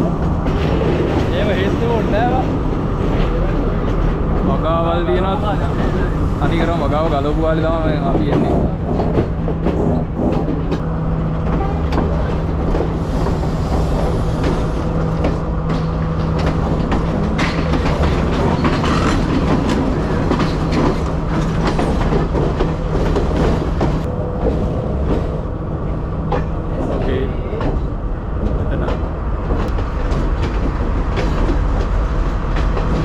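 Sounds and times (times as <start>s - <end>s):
train engine drone: 0.0s - 33.0s
wheels clacking over rail joints: 0.0s - 33.0s.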